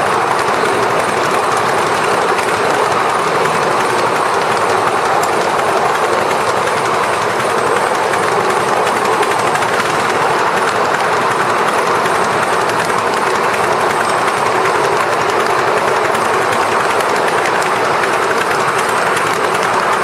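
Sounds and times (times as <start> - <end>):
steam locomotive rushing noise: 0.0 - 20.0
wheels clicking on track: 0.0 - 20.0.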